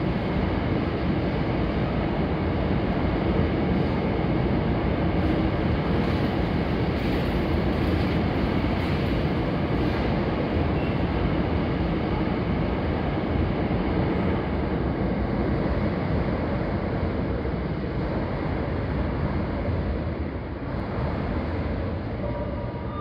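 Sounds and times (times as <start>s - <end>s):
electric train rumbling past: 0.0s - 23.0s.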